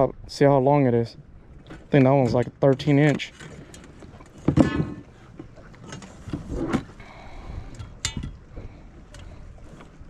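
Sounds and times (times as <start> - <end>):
water: 0.0 - 10.0
wind: 0.0 - 10.0
knocks and clatters in boat: 1.6 - 10.0.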